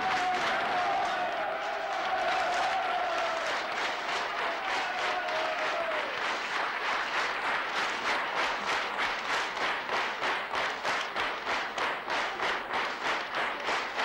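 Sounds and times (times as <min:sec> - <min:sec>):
crowd clapping in rhythm: 0:00.0 - 0:14.0.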